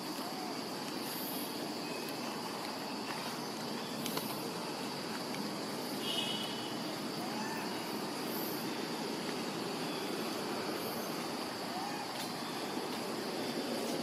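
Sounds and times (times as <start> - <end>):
insect buzzing: 0.0 - 14.0.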